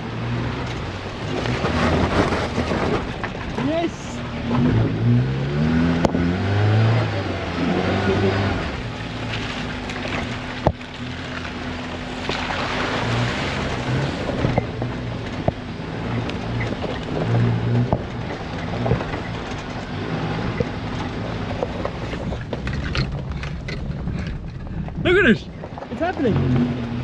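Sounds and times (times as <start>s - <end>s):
body and suspension rattling: 0.0s - 27.0s
engine working under load: 0.0s - 27.0s.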